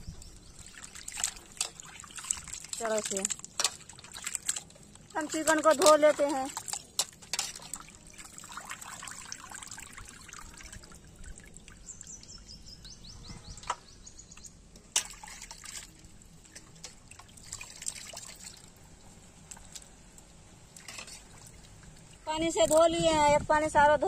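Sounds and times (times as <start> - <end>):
water splashing and dripping: 0.0 - 13.0, 14.4 - 23.0.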